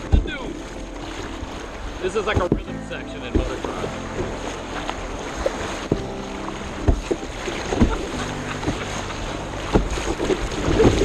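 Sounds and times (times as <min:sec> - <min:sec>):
paddle splashing on waves: 0:00.0 - 0:11.0
rushing water: 0:00.0 - 0:11.0.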